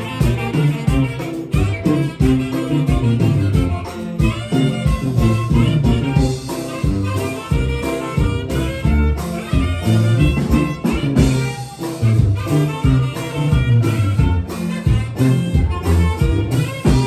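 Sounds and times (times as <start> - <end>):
saxophone and brass melody: 0.0 - 17.0
tuba bass line: 0.0 - 17.0.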